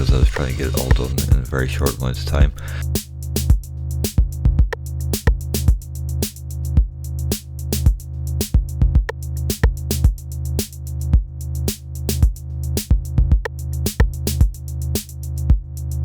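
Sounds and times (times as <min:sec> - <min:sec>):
drum machine beat: 0:00.0 - 0:16.0
sustained low bass: 0:00.0 - 0:16.0.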